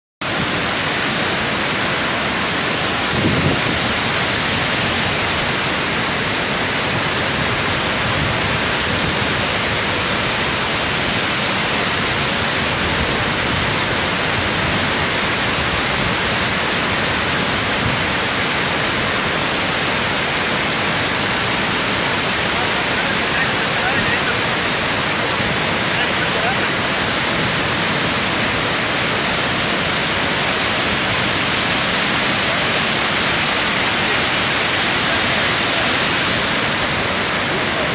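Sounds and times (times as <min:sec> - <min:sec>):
roar of water jetting and crashing: 0:00.2 - 0:37.9.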